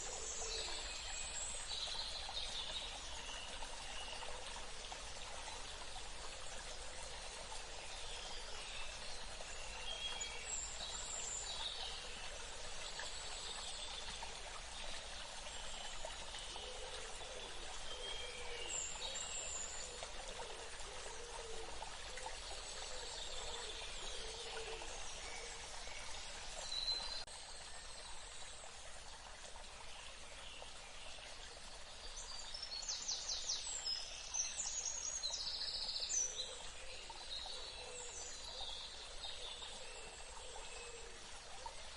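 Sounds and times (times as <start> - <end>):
stream water flowing: 0.0 - 41.9.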